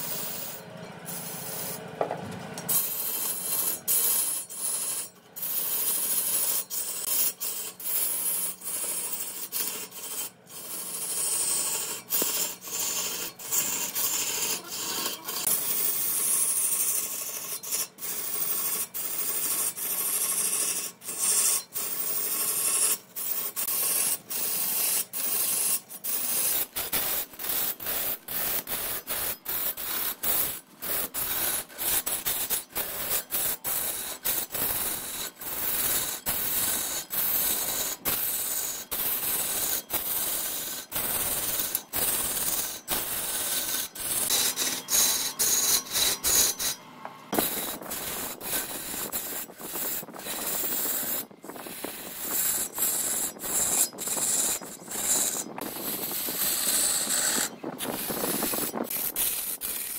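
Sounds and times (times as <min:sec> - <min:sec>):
lathe tool scraping wood: 0:00.0 - 0:59.9.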